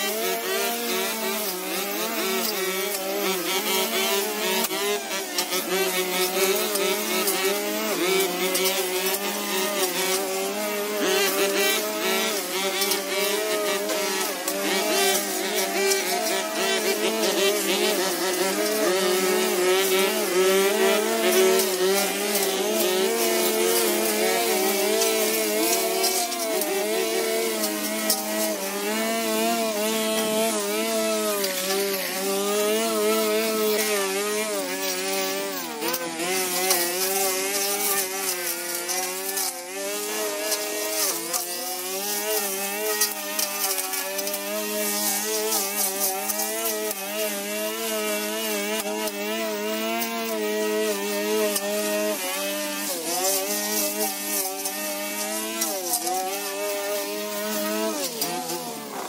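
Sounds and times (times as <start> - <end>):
brush cutter cutting grass: 0.0 - 59.0.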